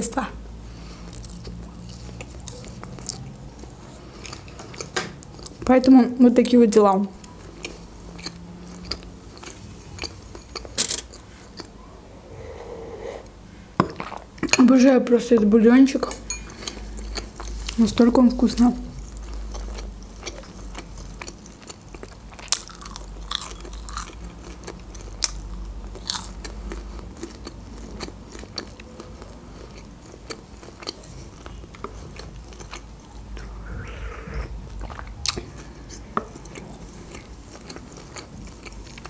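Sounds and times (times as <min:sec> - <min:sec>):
person chewing food: 0:00.8 - 0:05.6, 0:07.2 - 0:14.6, 0:16.1 - 0:17.8, 0:18.9 - 0:39.0.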